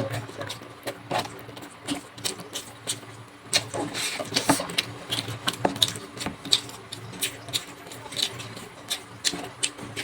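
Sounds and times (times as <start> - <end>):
wet chewing and lip-smacking: 0.4 - 10.0.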